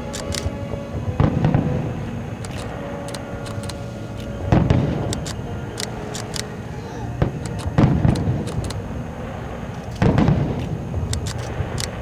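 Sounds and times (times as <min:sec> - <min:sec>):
fireworks booming: 0:00.0 - 0:12.0
sharp ticks: 0:00.0 - 0:12.0.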